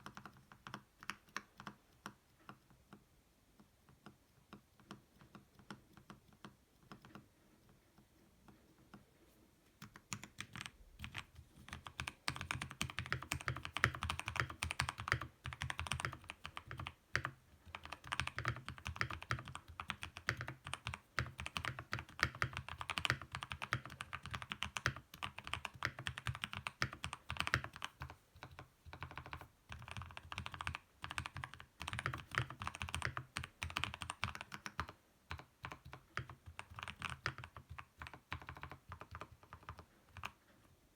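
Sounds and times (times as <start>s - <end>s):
mechanical keyboard typing: 0.0s - 3.0s, 9.8s - 40.5s.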